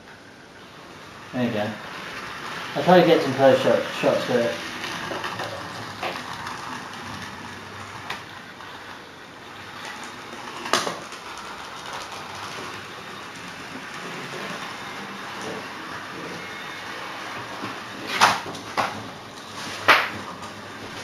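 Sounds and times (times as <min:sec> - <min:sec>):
model train running on track: 0:00.1 - 0:21.0.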